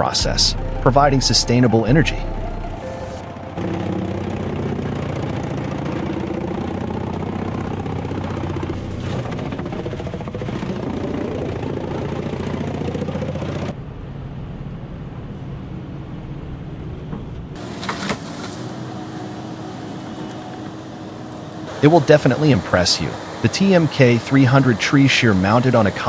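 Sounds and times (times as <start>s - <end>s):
wood chipper engine running: 0.0s - 13.7s, 17.6s - 26.0s.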